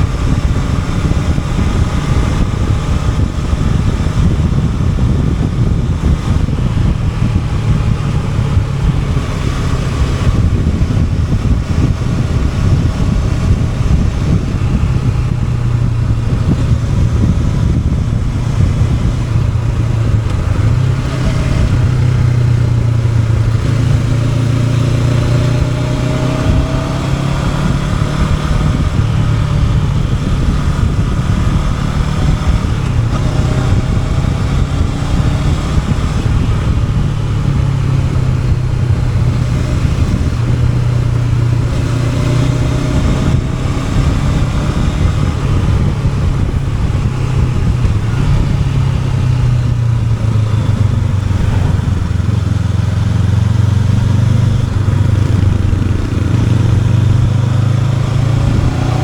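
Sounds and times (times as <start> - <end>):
motorcycle engine cruising: 0.0 - 59.0
wind noise: 0.0 - 59.0.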